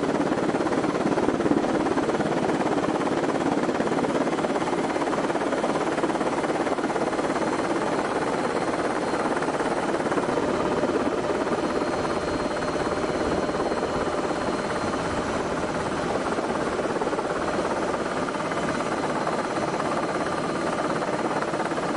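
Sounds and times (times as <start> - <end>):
helicopter engine and rotor rush: 0.0 - 21.9
faint whine tones: 0.3 - 21.9.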